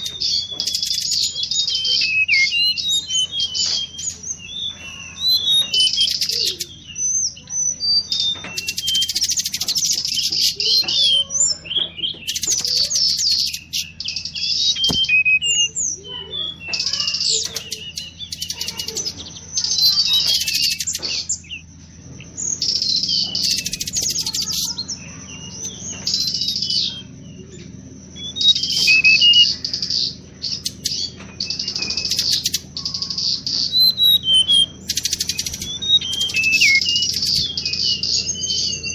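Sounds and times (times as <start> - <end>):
bird chirps: 0.0 - 38.9
rapid high bird twittering: 0.0 - 38.9.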